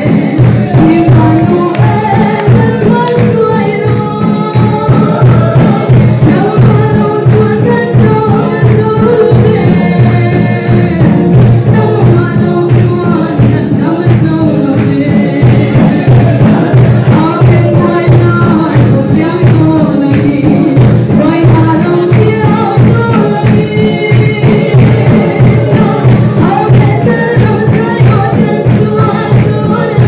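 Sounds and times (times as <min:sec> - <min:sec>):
percussion steady beat: 0:00.0 - 0:30.0
person singing gospel: 0:00.0 - 0:30.0.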